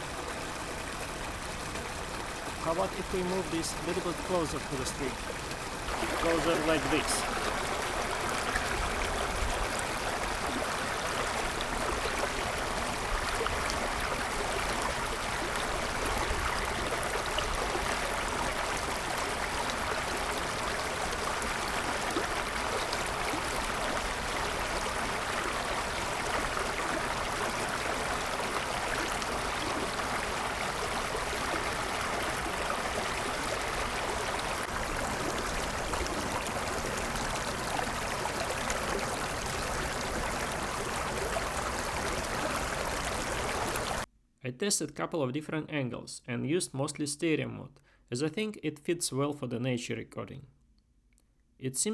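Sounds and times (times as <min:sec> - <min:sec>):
stream flowing over small waterfall: 0:00.0 - 0:44.1.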